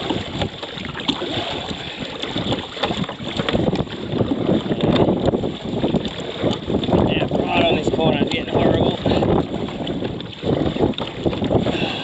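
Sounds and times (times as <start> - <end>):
water splashing against kayak: 0.0 - 12.0
wind buffeting microphone: 0.0 - 12.0.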